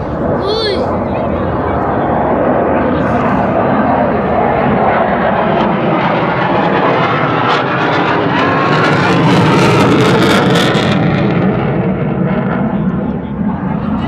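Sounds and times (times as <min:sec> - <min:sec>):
airplane engine rushing: 0:00.0 - 0:14.0.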